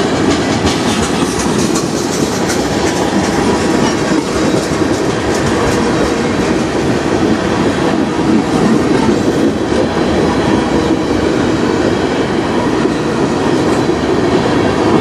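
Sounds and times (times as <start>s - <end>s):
clickety-clack of wheel trucks: 0.0s - 15.0s
steel train wheels on rails: 0.0s - 15.0s.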